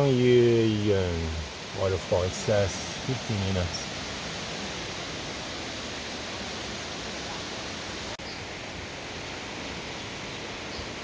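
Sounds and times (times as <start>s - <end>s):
outdoor rushing hiss: 0.0s - 11.0s.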